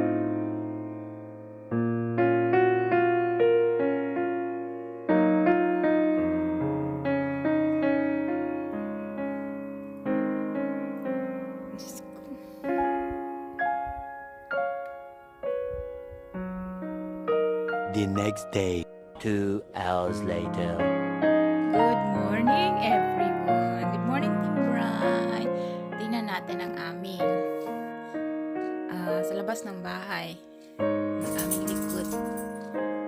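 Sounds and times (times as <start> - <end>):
solo piano piece: 0.0 - 33.0.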